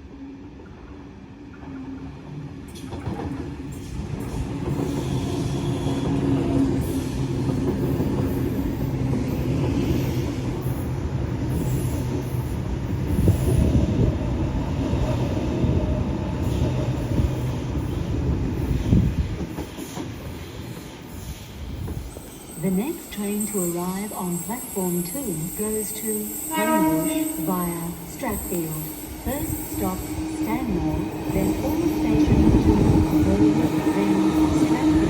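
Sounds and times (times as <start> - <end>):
train wheels clattering and squealing: 2.7 - 13.8, 16.4 - 35.0.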